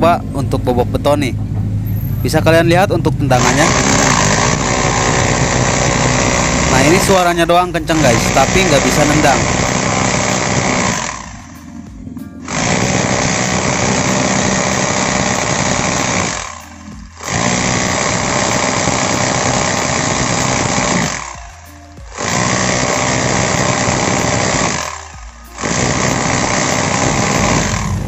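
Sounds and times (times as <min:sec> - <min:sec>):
rotary hammer drilling concrete: 0:03.3 - 0:11.8, 0:12.4 - 0:28.0.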